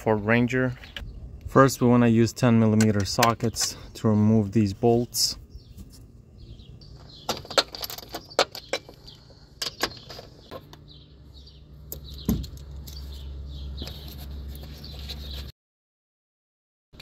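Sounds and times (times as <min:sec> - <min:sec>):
low steady hum: 0:00.0 - 0:15.3
birds chirping: 0:00.0 - 0:15.5.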